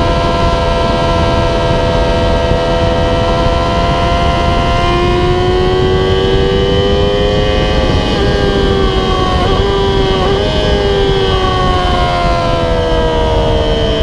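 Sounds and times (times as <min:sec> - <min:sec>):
motorcycle engine at high revs: 0:00.0 - 0:14.0
wind rush on microphone: 0:00.0 - 0:14.0.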